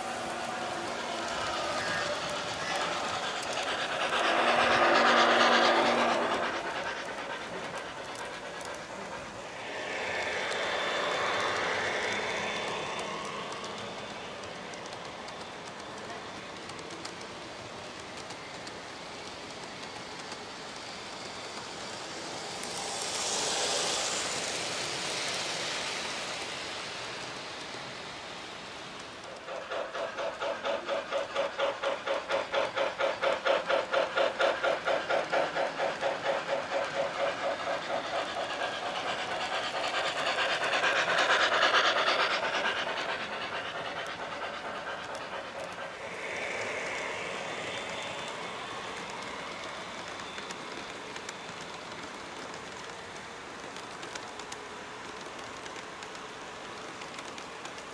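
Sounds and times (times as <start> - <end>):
model steam locomotive chuffing: 0.0 - 57.9
model trains rolling on track: 0.0 - 57.9.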